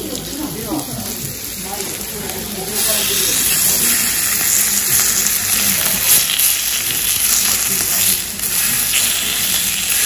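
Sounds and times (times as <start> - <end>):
meat and vegetables sizzling on griddle: 0.0 - 10.0.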